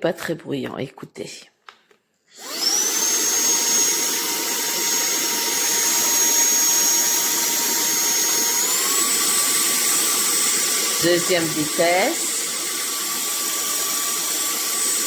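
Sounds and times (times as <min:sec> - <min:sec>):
handheld vacuum motor whine: 0:02.3 - 0:15.0.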